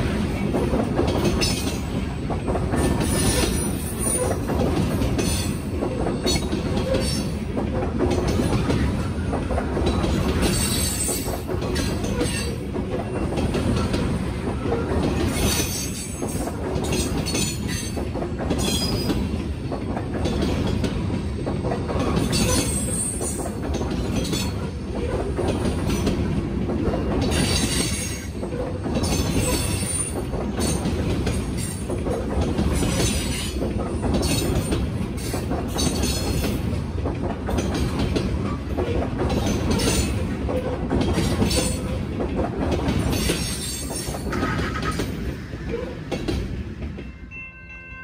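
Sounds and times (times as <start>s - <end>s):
train wheels rumbling on rails: 0.0s - 47.7s.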